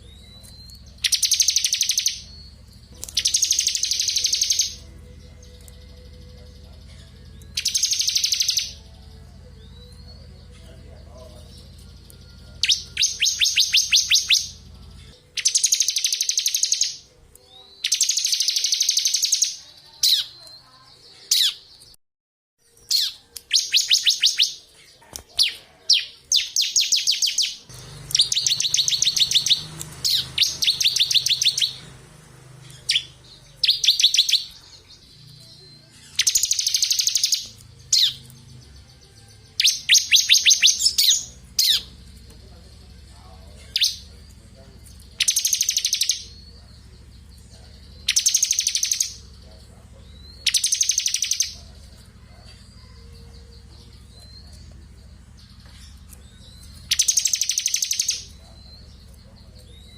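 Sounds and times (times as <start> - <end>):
bird singing rapid high trills: 0.0 - 21.9, 22.6 - 59.9.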